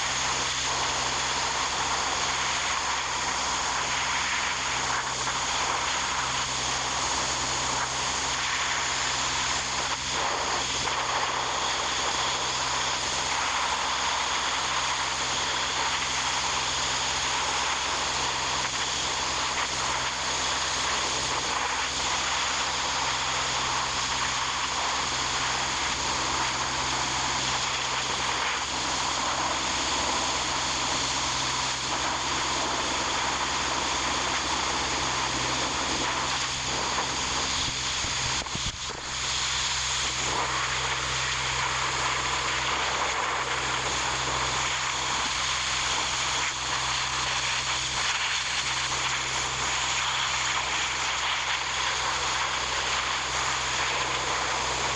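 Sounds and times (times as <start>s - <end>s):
steady mechanical drone: 0.0s - 54.9s.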